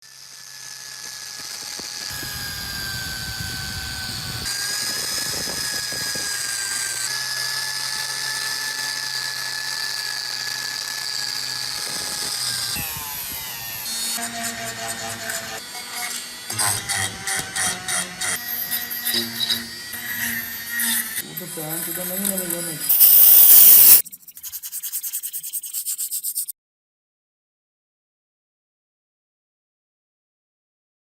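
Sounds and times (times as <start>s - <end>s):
rotary tool whining: 0.0s - 26.5s.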